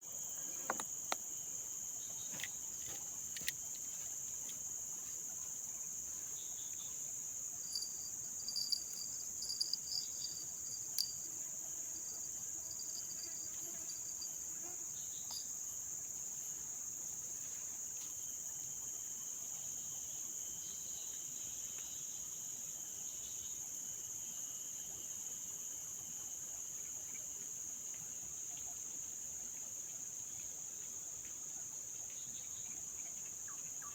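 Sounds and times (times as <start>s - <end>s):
insect chorus drone: 0.0s - 33.9s.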